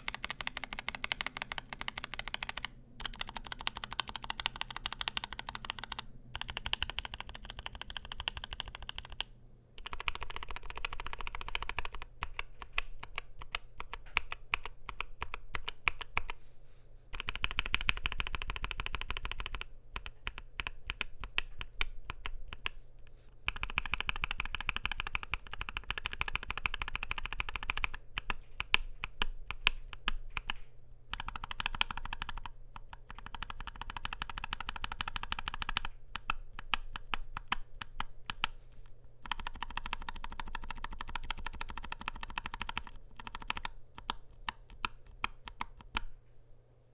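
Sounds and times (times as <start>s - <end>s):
fast typing on mechanical keyboard: 0.0s - 16.4s, 17.1s - 22.8s, 23.4s - 38.6s, 39.2s - 46.1s.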